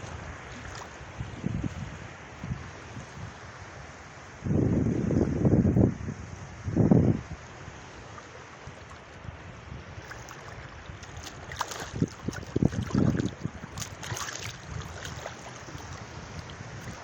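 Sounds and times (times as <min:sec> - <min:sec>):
sea waves washing at shore: 0:00.0 - 0:05.3, 0:06.0 - 0:17.0
wind buffeting microphone: 0:00.0 - 0:07.6, 0:08.7 - 0:17.0.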